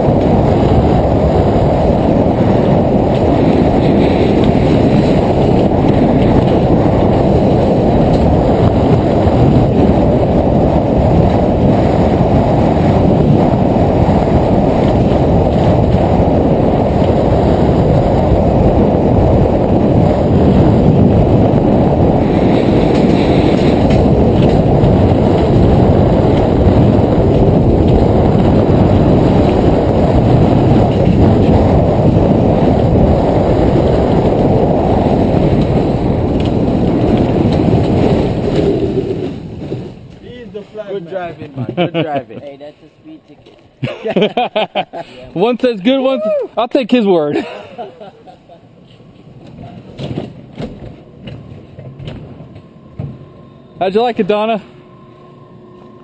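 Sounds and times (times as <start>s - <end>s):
coaster rushing rumble on rails: 0.0s - 54.8s
wind buffeting microphone: 0.0s - 56.0s.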